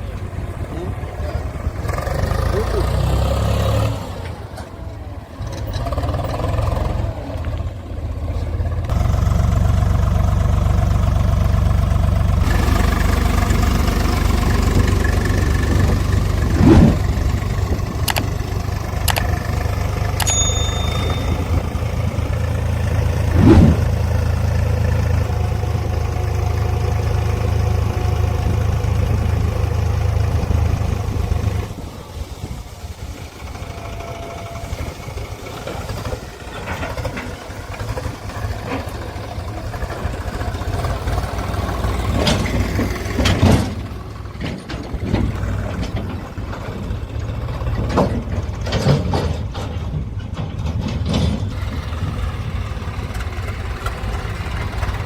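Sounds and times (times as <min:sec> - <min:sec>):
diesel engine running: 0:00.0 - 0:55.0
engine knocks: 0:00.0 - 0:55.0.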